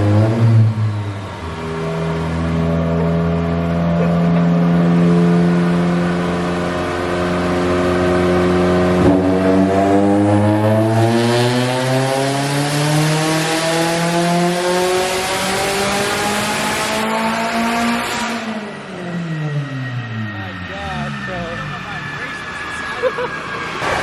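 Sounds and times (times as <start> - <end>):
car engine revving on dyno: 0.0 - 22.3.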